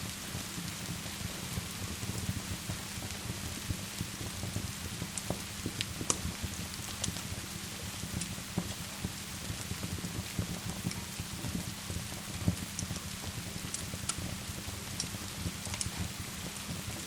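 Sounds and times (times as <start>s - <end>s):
steady rain hiss: 0.0s - 17.0s
wood fire crackling and popping: 0.0s - 17.0s.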